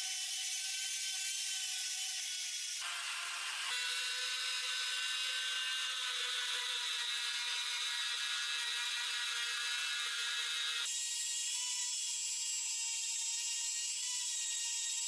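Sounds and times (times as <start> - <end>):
power tool whirring: 0.0 - 15.0.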